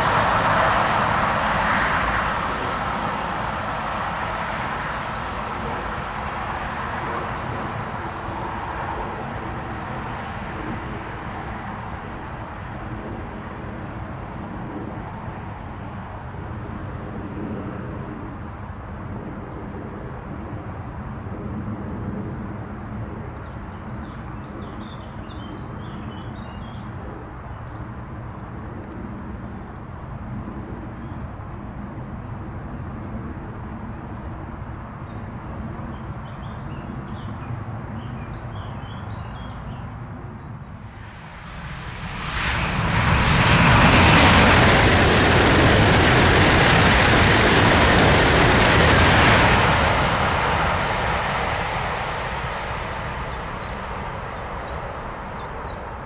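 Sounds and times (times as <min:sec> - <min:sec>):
steady low rumble: 0:00.0 - 0:23.8, 0:26.9 - 0:56.0
high-speed train passing: 0:00.0 - 0:56.0.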